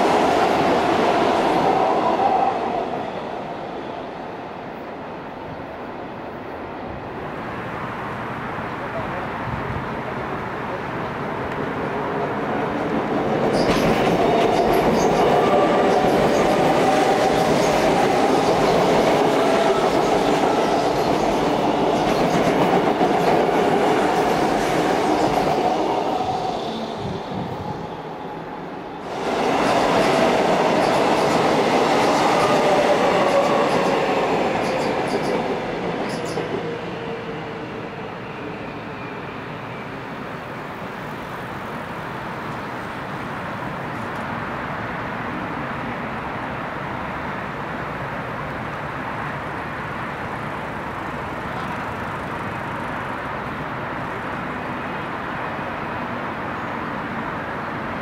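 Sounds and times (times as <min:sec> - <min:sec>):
electric train passing: 0:00.0 - 0:58.0.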